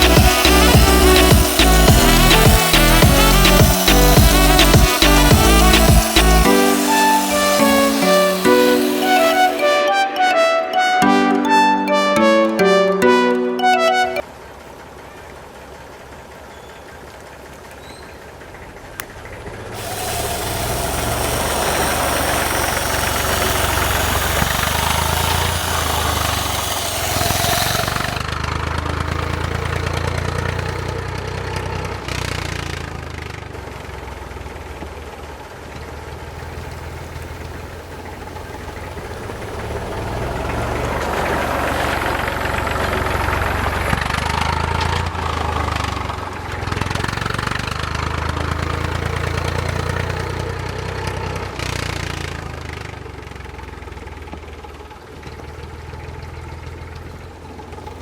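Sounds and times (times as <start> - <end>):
tractor diesel engine running: 0.0 - 9.6, 17.0 - 58.0.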